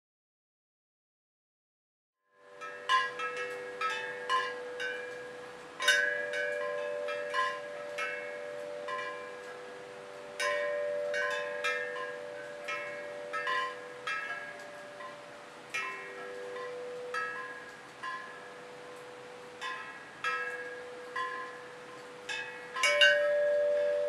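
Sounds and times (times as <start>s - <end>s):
low sustained tone: 2.4s - 24.0s
metal tube chimes ringing: 2.5s - 24.0s.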